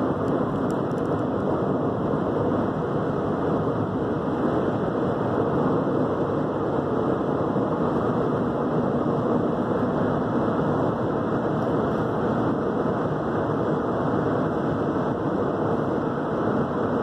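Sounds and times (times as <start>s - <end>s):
tyre and wind noise in car: 0.0s - 17.0s.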